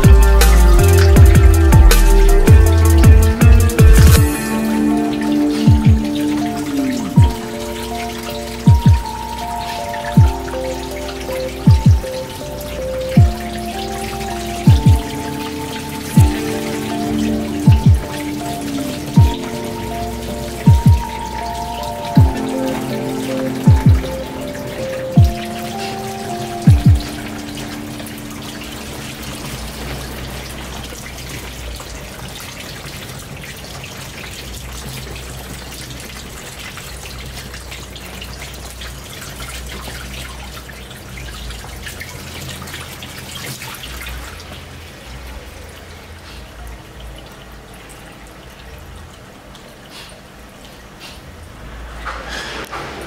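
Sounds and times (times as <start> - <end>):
hose water spraying on mesh: 0.0 - 44.7, 49.8 - 53.0.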